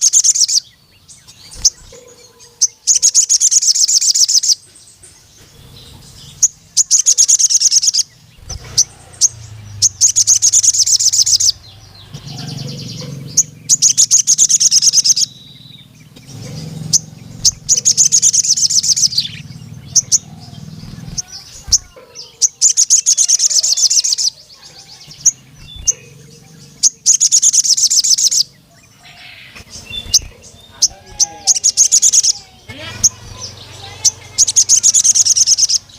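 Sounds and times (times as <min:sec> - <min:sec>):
bird high-pitched trilling: 0:00.0 - 0:35.9
bird sharp chirps: 0:00.0 - 0:35.9.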